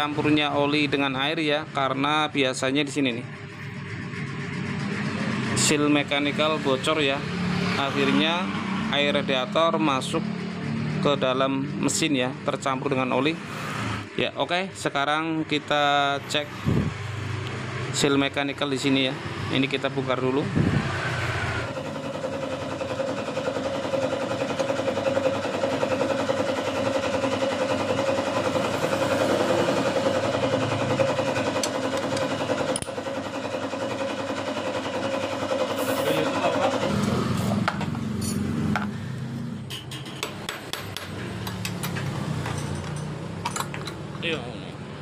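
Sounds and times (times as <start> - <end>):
mechanical hum: 0.0 - 45.0.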